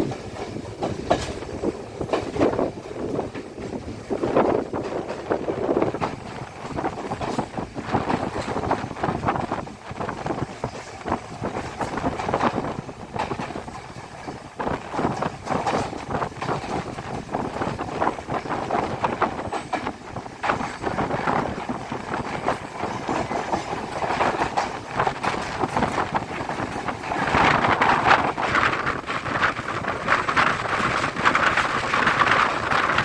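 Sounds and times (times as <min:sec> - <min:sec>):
train running on track: 0:00.0 - 0:33.0
train wheels knocking over rails: 0:00.0 - 0:33.0.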